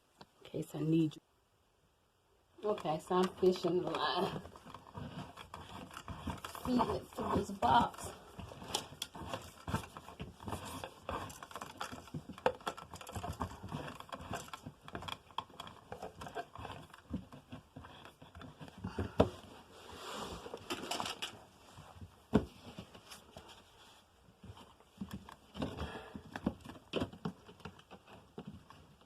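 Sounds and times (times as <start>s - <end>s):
cable scraping and rustling in wall: 2.6s - 29.0s.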